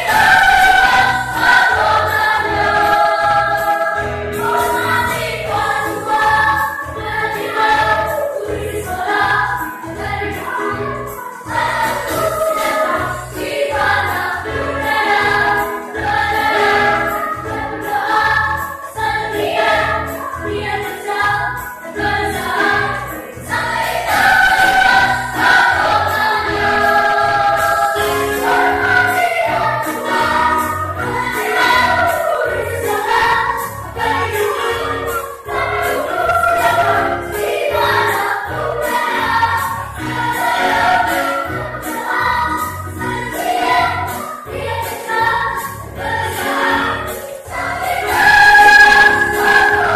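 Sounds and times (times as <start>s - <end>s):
children's choir singing: 0.0s - 49.9s.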